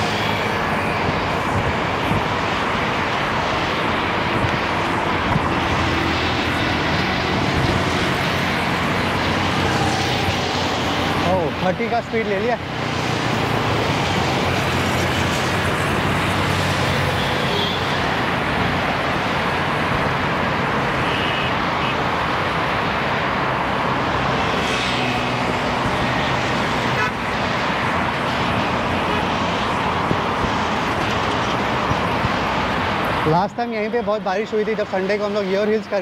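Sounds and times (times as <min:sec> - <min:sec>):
highway traffic roar: 0:00.0 - 0:36.0.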